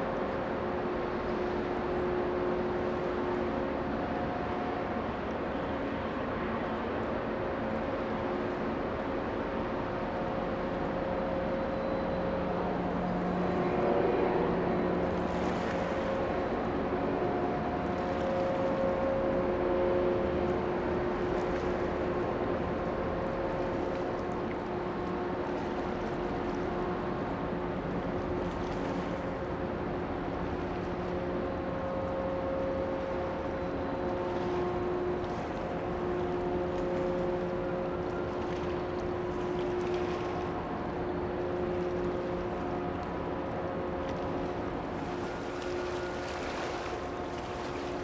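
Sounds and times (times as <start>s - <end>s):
humming engine tones: 0.0s - 48.0s
ship engine rumble: 0.0s - 48.0s.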